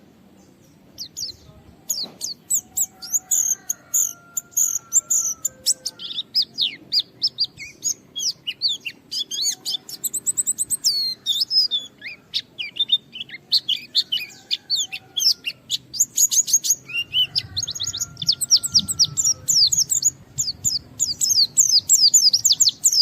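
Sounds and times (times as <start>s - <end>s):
bird chirping rapidly: 0.6s - 23.0s.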